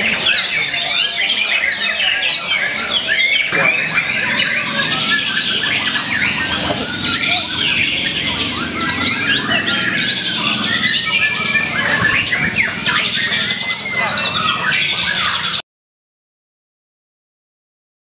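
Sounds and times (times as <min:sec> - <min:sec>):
bird singing whistles and trills: 0:00.0 - 0:15.6
chorus of songbirds: 0:00.0 - 0:15.6.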